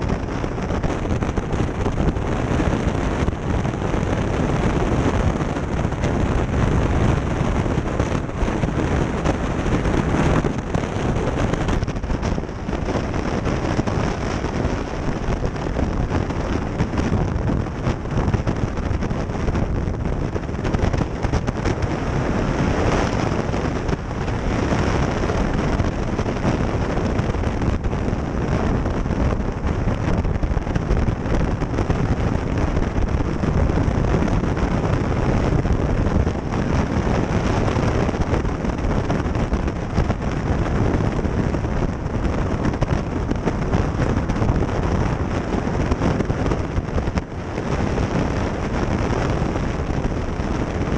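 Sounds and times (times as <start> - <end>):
motorcycle engine and road noise: 0.0 - 50.9
wind buffeting microphone: 0.0 - 50.9.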